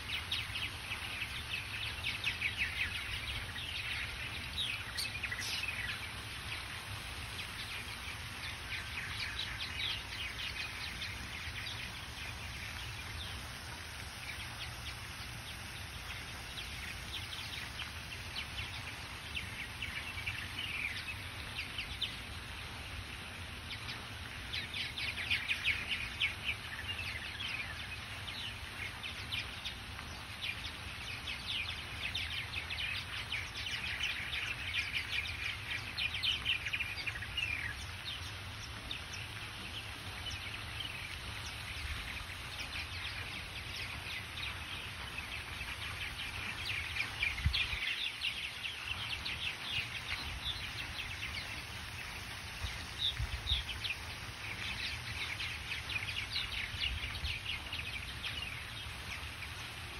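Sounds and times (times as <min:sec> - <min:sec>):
birds chirping and chattering: 0:00.0 - 0:59.9
low background hiss: 0:00.0 - 0:59.9.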